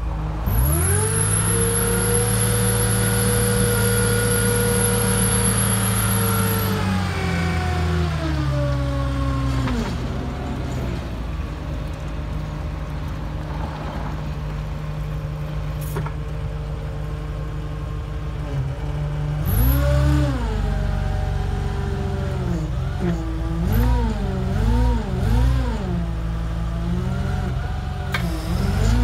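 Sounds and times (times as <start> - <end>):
forklift engine running: 0.0 - 29.0.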